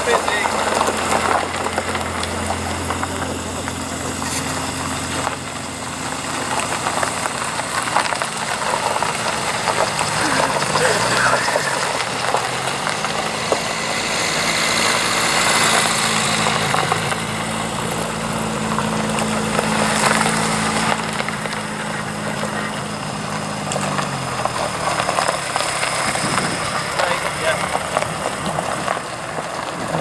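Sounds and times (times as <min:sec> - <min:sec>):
car engine running at low revs: 0:00.0 - 0:30.0.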